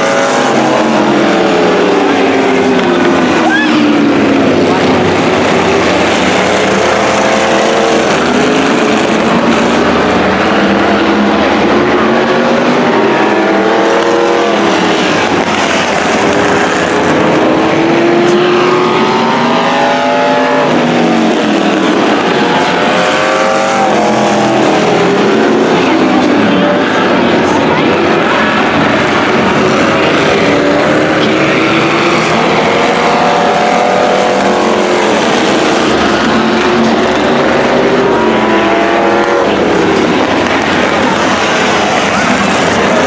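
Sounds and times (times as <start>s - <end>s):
race car engines revving: 0.0s - 43.0s.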